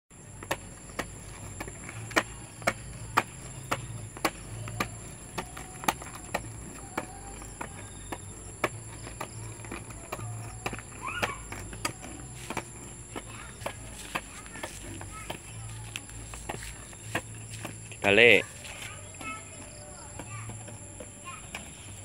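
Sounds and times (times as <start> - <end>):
skateboard rolling rumble: 0.2 - 22.0
skateboard wheels knocking on pavement: 0.2 - 22.0.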